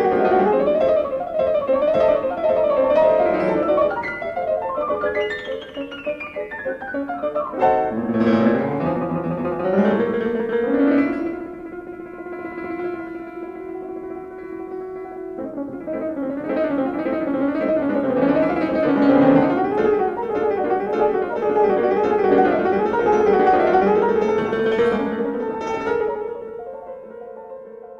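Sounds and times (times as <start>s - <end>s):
piano and plucked strings music: 0.0s - 27.9s.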